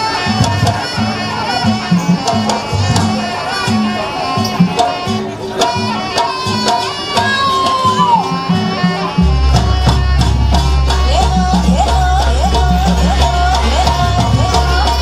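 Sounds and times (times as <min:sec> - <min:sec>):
drums in quick rhythm: 0:00.0 - 0:15.0
reedy shawm melody: 0:00.0 - 0:15.0.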